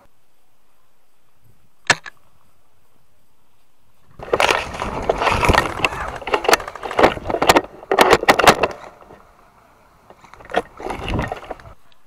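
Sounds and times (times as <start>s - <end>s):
leaves and branches rustling: 0.0s - 12.0s.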